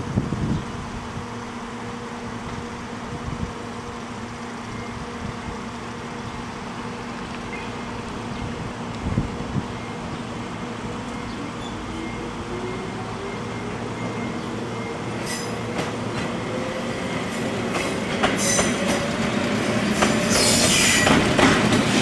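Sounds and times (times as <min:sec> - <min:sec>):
electric train humming: 0:00.0 - 0:22.0.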